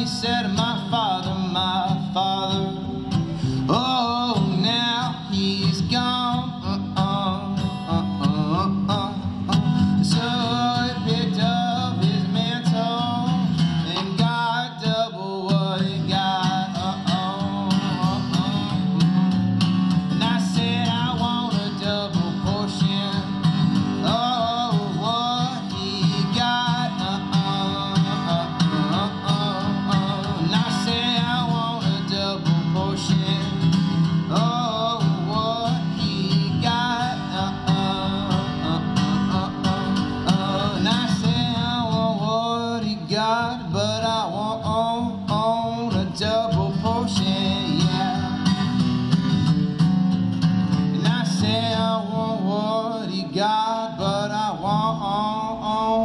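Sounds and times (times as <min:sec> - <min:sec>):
person singing: 0:00.0 - 0:19.4, 0:20.2 - 0:48.8
acoustic guitar: 0:00.0 - 0:56.0.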